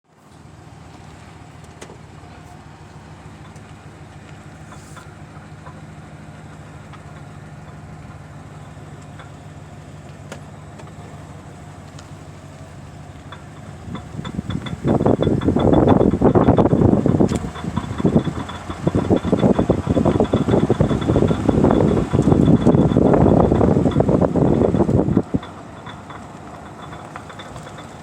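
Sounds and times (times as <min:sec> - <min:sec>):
pickup truck engine humming: 0:00.1 - 0:28.0.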